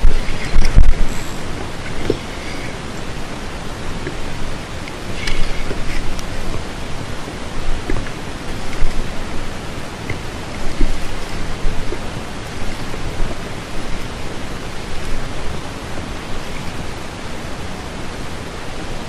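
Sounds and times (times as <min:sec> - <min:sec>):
sea rushing: 0:00.0 - 0:19.0
wind rushing on microphone: 0:00.0 - 0:19.0.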